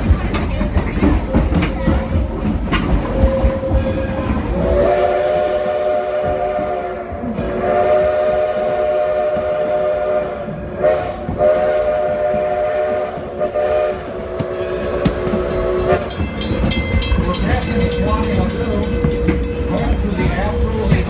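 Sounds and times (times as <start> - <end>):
rumble and clatter of moving train: 0.0 - 21.0
steam locomotive chime whistle: 3.2 - 21.0.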